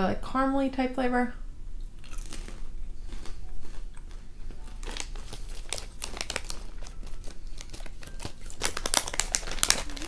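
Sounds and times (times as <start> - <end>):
popcorn crunching while chewing: 1.8 - 10.0.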